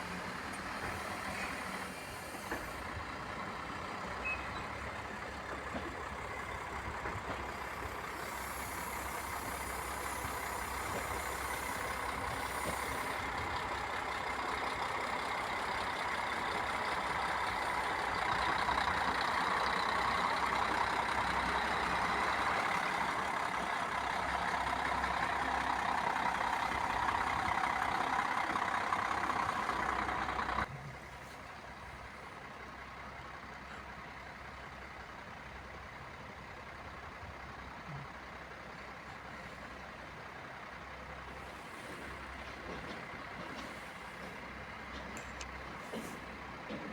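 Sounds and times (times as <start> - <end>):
train running past on rails: 0.0 - 46.9.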